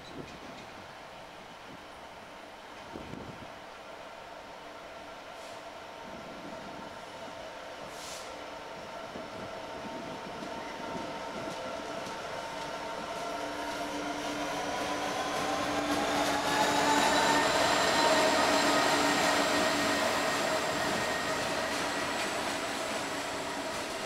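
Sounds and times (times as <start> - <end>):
diesel locomotive passing: 0.6 - 24.0.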